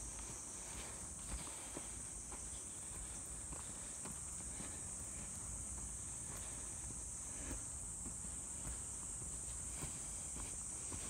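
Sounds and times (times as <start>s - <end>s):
faint footsteps on a trail: 0.0s - 11.0s
high-pitched insect chorus: 0.0s - 11.0s.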